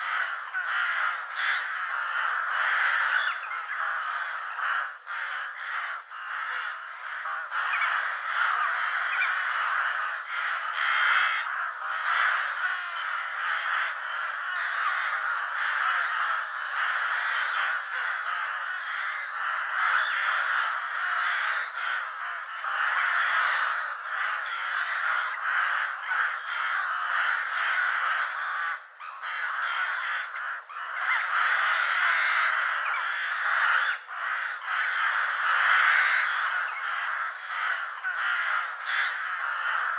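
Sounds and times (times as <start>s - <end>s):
crows cawing: 0.0s - 39.9s.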